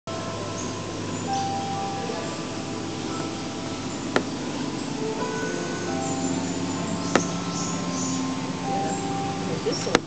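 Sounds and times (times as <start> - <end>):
soft chime-like background music: 0.1 - 10.0.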